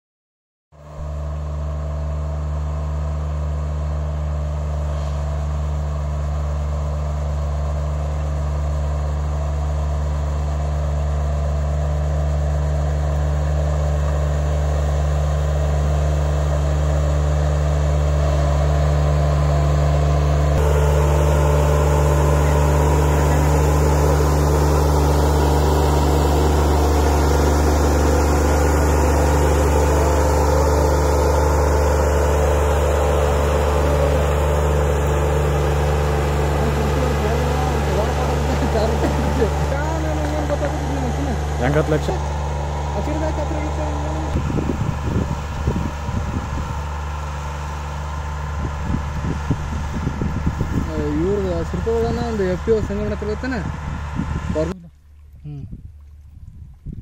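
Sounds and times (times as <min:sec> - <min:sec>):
sprayer engine running: 0:00.8 - 0:55.0.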